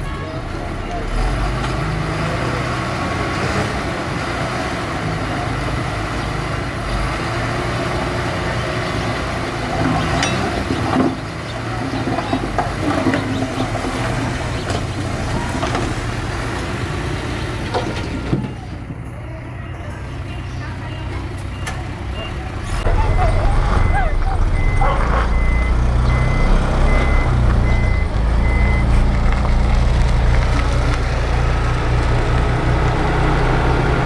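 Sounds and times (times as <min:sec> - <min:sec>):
diesel truck engine running: 0:00.0 - 0:34.0.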